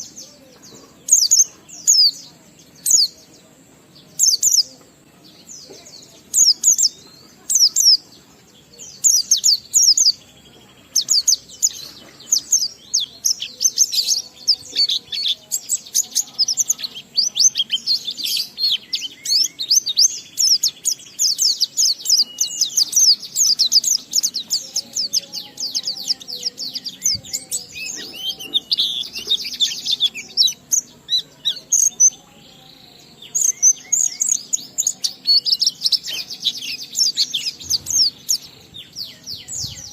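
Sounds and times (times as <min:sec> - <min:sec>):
bird singing high twittering: 0:00.0 - 0:39.9.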